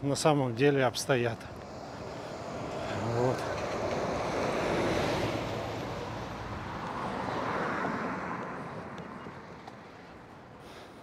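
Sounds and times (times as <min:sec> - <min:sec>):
road vehicle passing: 0:00.5 - 0:11.0.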